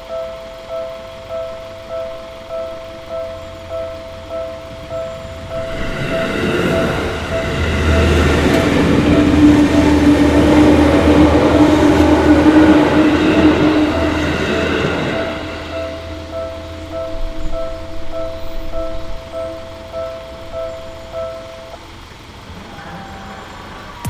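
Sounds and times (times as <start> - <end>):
crossing bell two-tone chime: 0.0 - 21.8
electric train passing: 0.0 - 24.0
train motor hum: 0.0 - 24.0.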